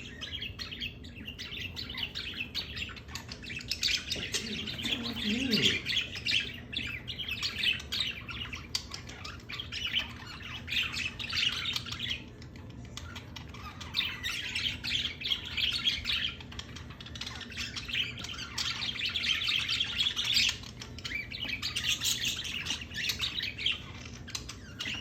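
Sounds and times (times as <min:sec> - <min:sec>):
pet birds chirping and squawking: 0:00.0 - 0:25.0.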